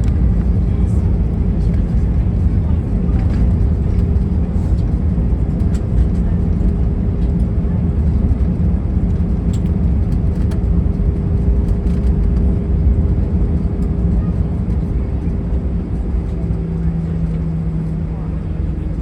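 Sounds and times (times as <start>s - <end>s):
aircraft cabin engine rumble: 0.0s - 19.0s
steady cabin hum: 0.0s - 19.0s.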